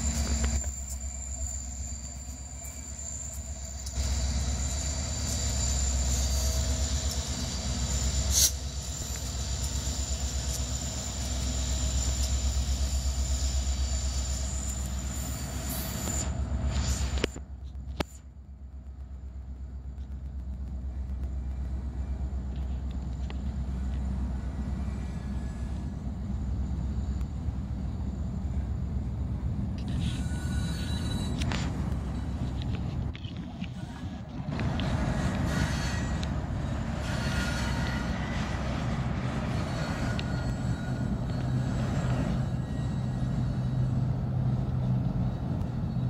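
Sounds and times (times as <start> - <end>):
high wheel squeal: 0.0 - 17.3, 23.2 - 27.2, 29.8 - 46.0
freight train rolling past: 0.0 - 46.0.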